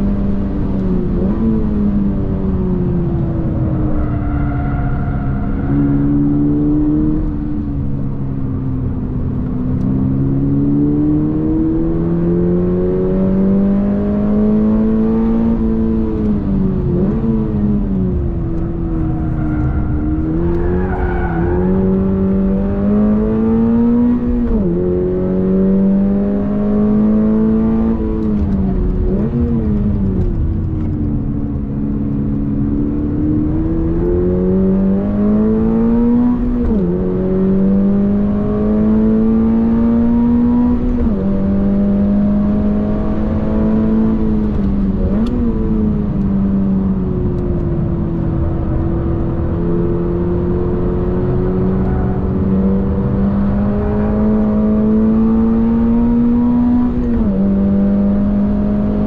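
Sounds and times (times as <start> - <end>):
car engine revving: 0.0 - 59.0
road rumble: 0.0 - 59.0.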